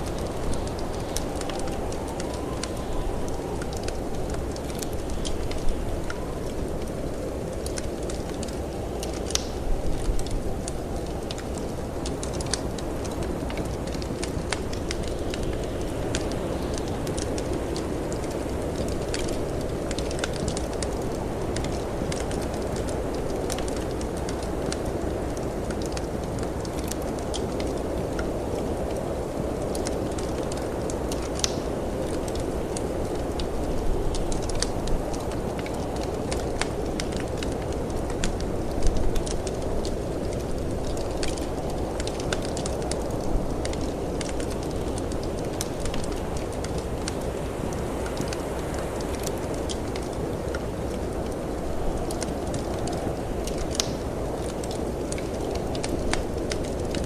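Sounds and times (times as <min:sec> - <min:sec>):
low rumble of wind: 0:00.0 - 0:57.0
wood fire crackling: 0:00.0 - 0:57.0.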